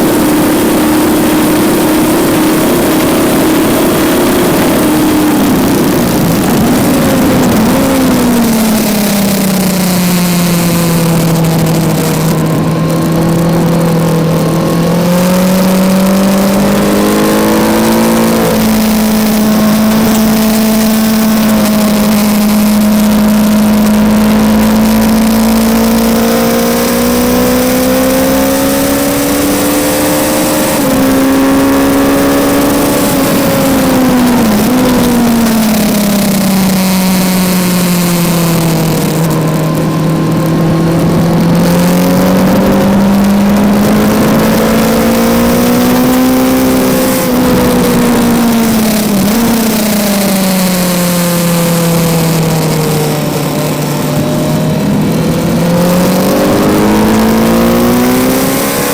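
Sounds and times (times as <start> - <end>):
motorcycle engine revving: 0.0 - 58.9
wind noise: 0.0 - 58.9.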